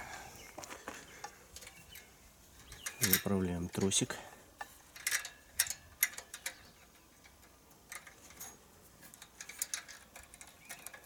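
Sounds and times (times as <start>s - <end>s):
metallic clicks of throttle cable: 0.6s - 11.0s.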